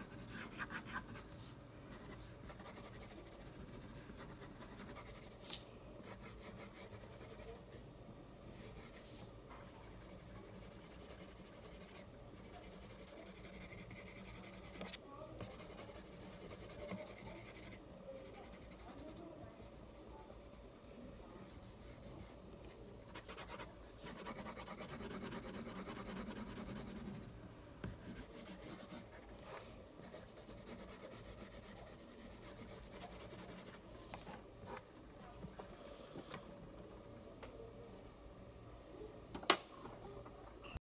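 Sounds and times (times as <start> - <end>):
pencil shading on paper: 0.0 - 7.8, 8.4 - 9.2, 9.8 - 34.8.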